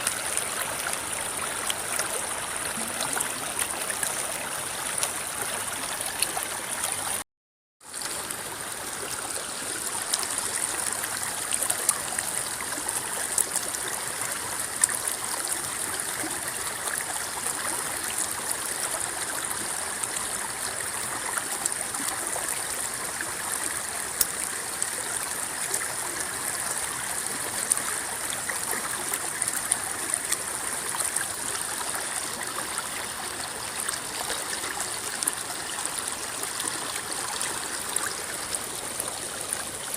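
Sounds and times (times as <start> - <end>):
river water flowing: 0.0 - 7.2, 7.8 - 39.9.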